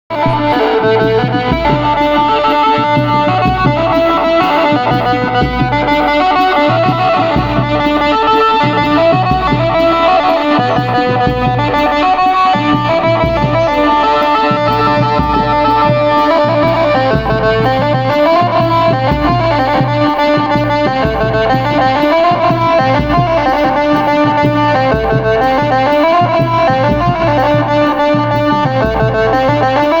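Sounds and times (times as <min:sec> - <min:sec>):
amplified plucked-string melody: 0:00.1 - 0:30.0
steady drum beat: 0:00.1 - 0:30.0.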